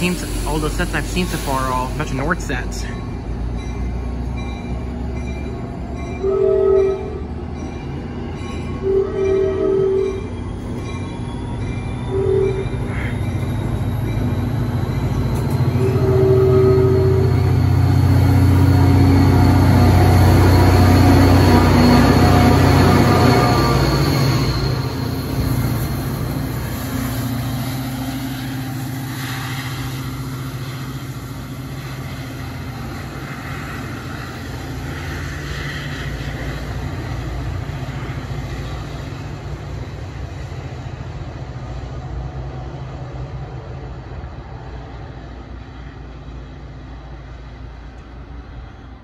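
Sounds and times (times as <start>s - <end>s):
diesel locomotive engine drone: 0.0s - 49.0s
train wheel noise: 0.0s - 49.0s.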